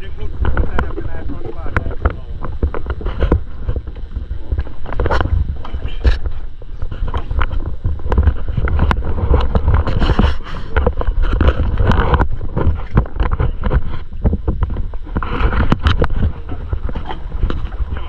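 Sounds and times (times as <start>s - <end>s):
water lapping against boat hulls: 0.0s - 18.0s
wind rumbling on microphone: 0.0s - 18.0s.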